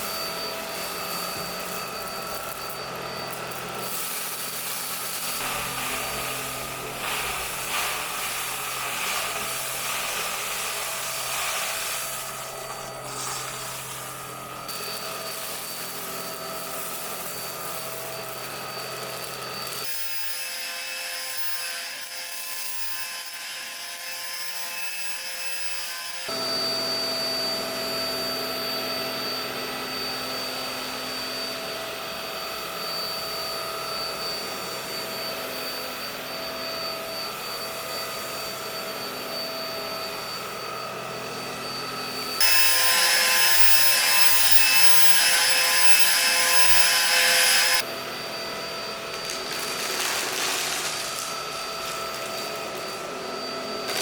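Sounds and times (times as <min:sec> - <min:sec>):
stick vacuum motor whine: 0:00.0 - 0:54.0.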